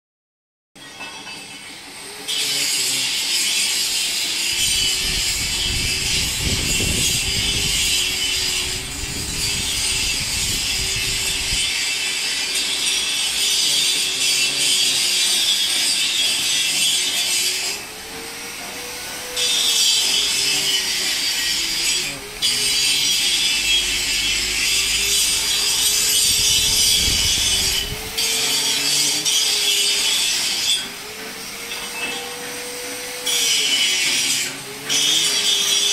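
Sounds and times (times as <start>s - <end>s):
chaff cutter running: 0.8s - 35.9s.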